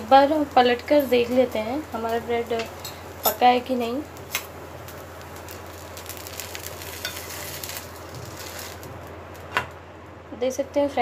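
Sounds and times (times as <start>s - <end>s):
bread sizzling in a pan: 0.0s - 9.8s.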